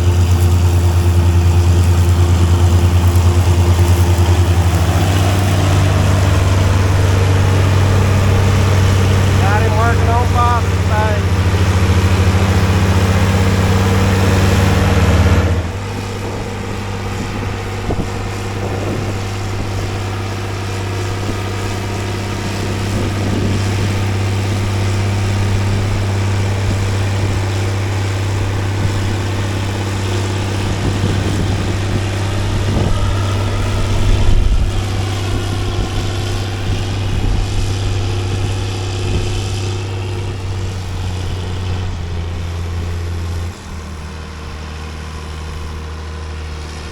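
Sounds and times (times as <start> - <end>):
heavy engine humming: 0.0 - 46.9.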